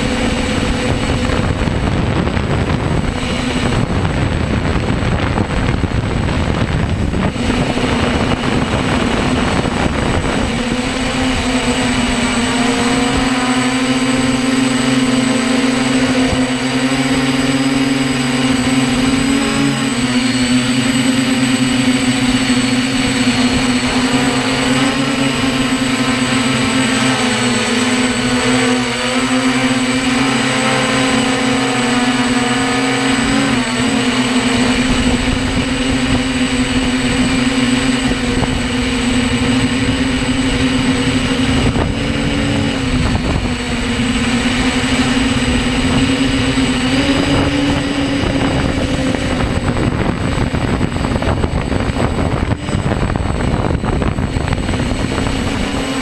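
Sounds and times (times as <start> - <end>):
drone motors and propellers: 0.0 - 56.0.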